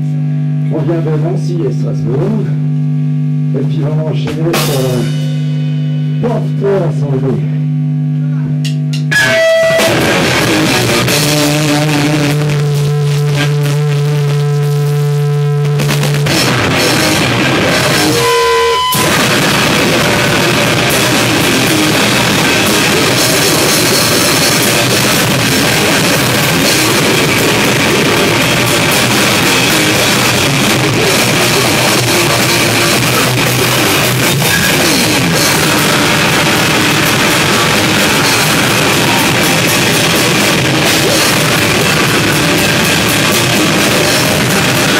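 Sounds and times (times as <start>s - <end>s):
live rock band playing: 4.4s - 6.8s, 8.9s - 44.9s.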